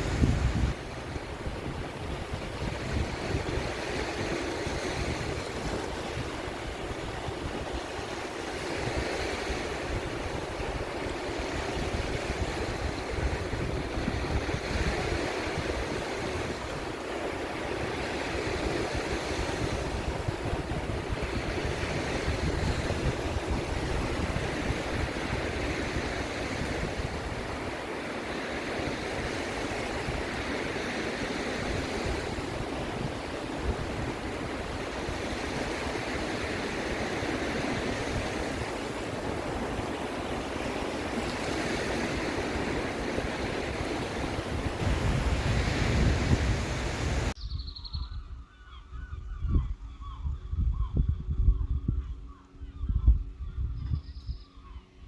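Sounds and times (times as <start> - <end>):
sea surf washing in: 0.0 - 47.4
wind on microphone: 0.0 - 55.0.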